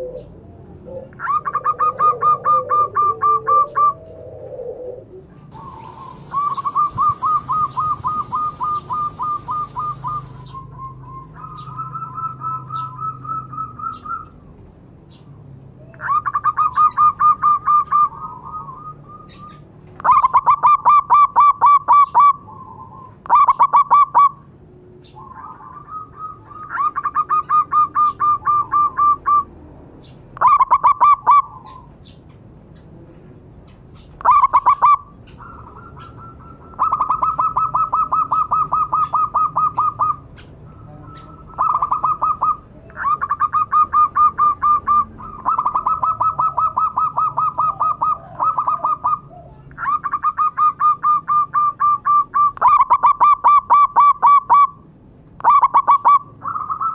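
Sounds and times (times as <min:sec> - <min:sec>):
doves cooing in trills: 0:00.0 - 0:14.5, 0:15.7 - 0:29.6, 0:30.4 - 0:32.1, 0:34.0 - 0:54.8, 0:55.4 - 0:56.9.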